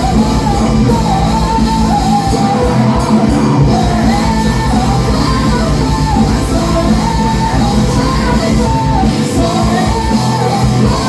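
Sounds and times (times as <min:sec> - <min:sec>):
metal band playing live: 0:00.0 - 0:11.0.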